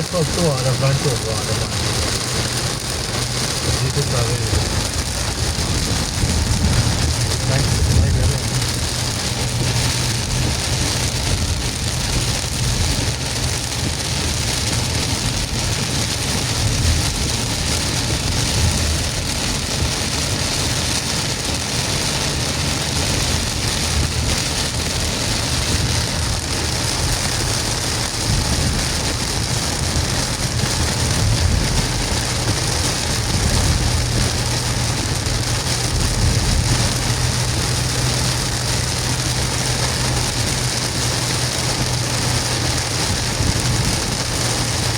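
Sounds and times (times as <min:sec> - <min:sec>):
car engine hum: 0:00.0 - 0:44.9
heavy rain on a car: 0:00.0 - 0:44.9
wet road noise: 0:00.0 - 0:44.9.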